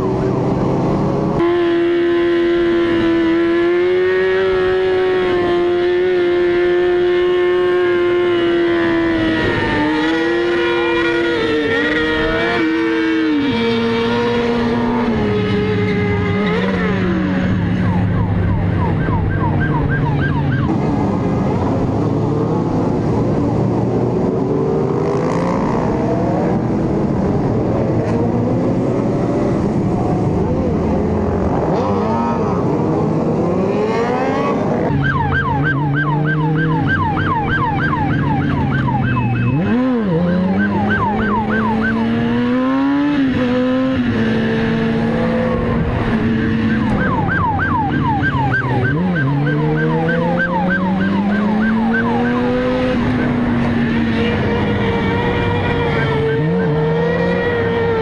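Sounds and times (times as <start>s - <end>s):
motorcycle engines revving: 0.0s - 58.0s
motorcycles passing: 0.0s - 58.0s.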